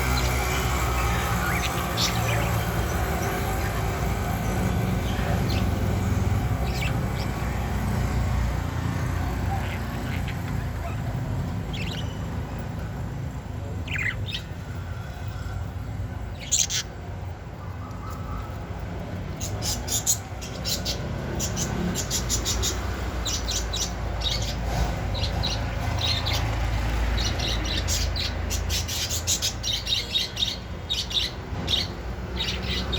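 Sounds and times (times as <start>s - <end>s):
budgerigars chirping: 0.0s - 12.4s, 13.8s - 14.6s, 16.4s - 16.9s, 19.3s - 26.4s, 27.2s - 32.9s.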